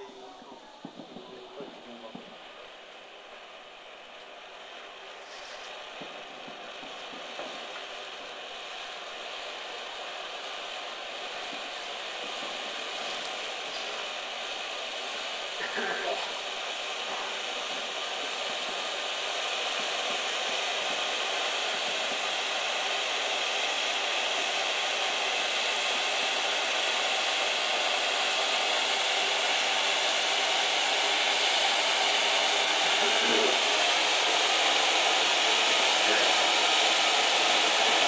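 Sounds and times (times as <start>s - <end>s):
firework fountain hissing: 0.0s - 38.0s.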